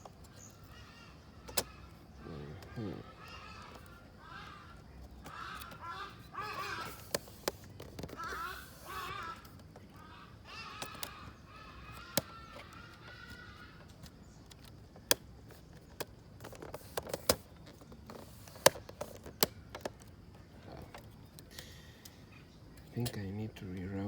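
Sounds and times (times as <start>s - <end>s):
bird calling: 0.0s - 24.0s
plastic case parts clicking: 1.4s - 10.1s, 10.7s - 22.2s.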